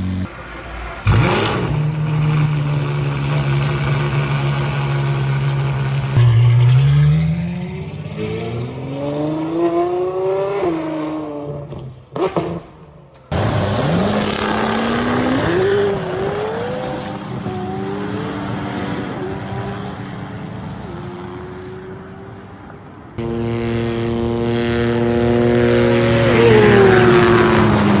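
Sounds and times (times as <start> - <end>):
sports car accelerating: 0.0 - 28.0.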